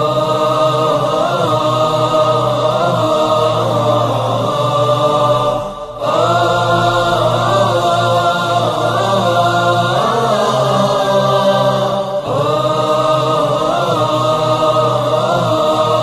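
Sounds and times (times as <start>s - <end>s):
steady low drone: 0.0s - 16.0s
wordless choir chanting: 0.0s - 16.0s.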